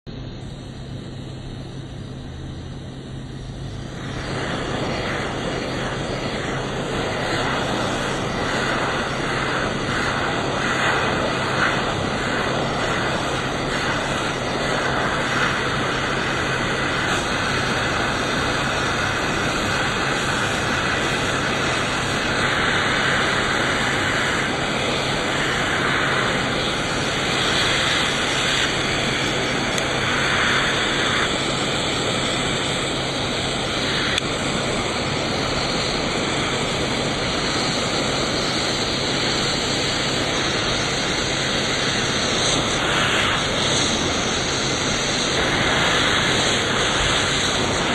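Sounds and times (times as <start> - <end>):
low electrical hum: 0.1 - 47.9
hot-air gun hissing: 0.5 - 47.9.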